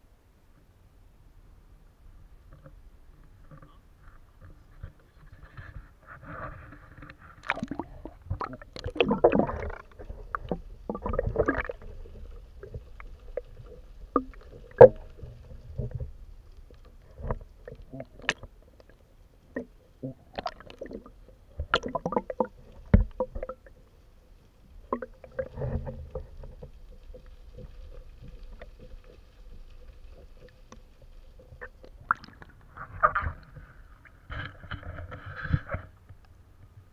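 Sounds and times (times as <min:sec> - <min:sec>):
water splashing against kayak hull: 0:04.7 - 0:36.2.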